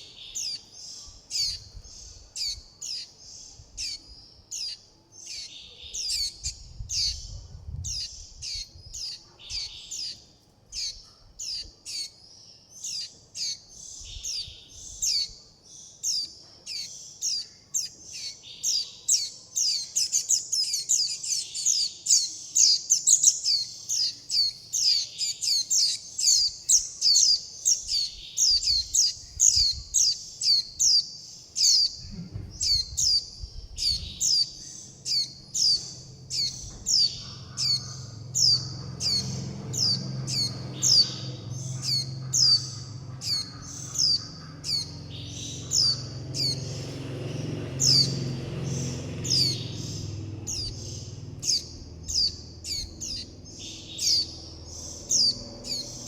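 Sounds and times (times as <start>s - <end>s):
juvenile birds begging calls: 0.0s - 56.0s.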